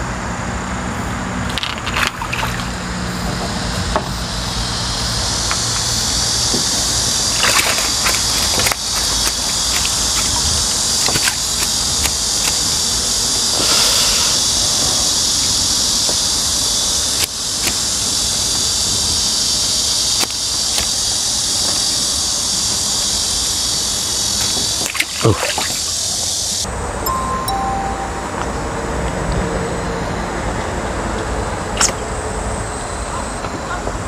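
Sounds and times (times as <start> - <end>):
cicadas chorus: 0.0 - 26.7, 30.8 - 34.0.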